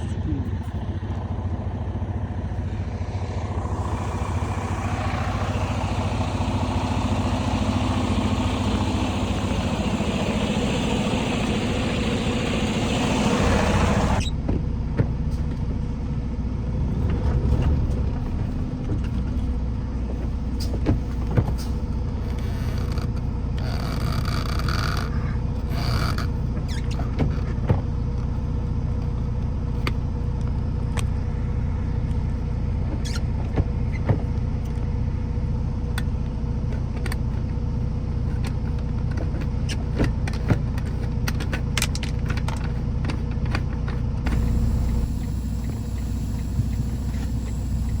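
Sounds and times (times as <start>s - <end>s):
vehicle engine and road rumble: 0.0s - 48.0s.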